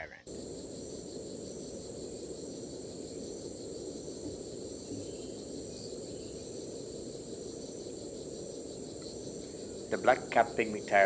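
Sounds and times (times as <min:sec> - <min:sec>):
forest insects chorus: 0:00.0 - 0:11.0.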